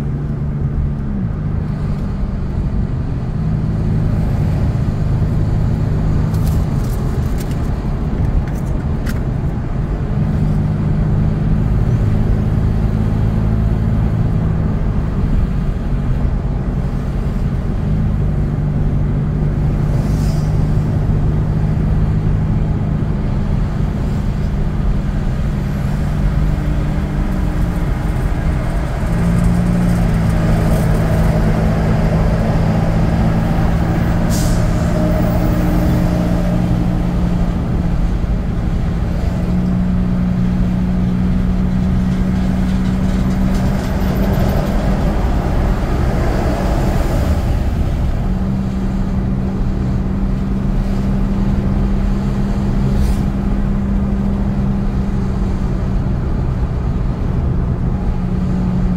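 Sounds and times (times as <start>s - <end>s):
road noise: 0.0s - 58.9s
vehicle engine hum: 0.0s - 58.9s.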